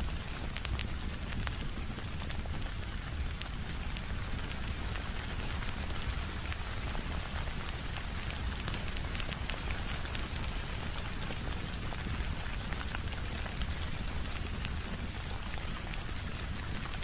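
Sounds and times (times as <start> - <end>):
rain on a window: 0.0 - 17.0
wood fire crackling: 0.0 - 17.0.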